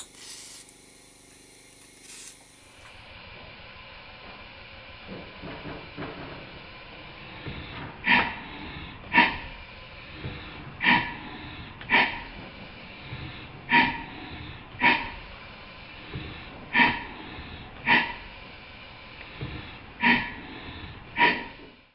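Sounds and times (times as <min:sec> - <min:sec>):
steady steam hiss: 0:00.0 - 0:21.9
steam engine exhaust chuffing: 0:00.0 - 0:21.9.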